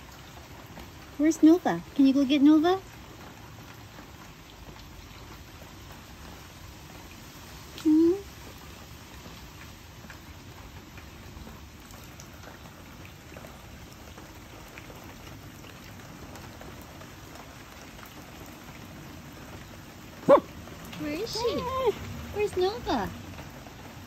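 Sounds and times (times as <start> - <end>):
steady rain falling: 0.0 - 24.0
water drips: 0.0 - 24.0.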